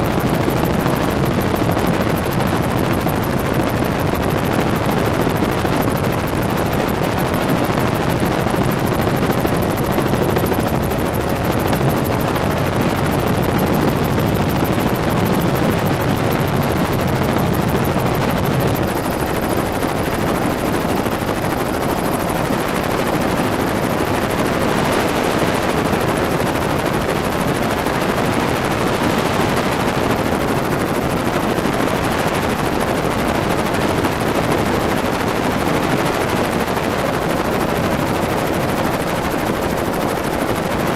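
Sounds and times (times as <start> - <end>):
helicopter rotor chop: 0.0 - 40.9.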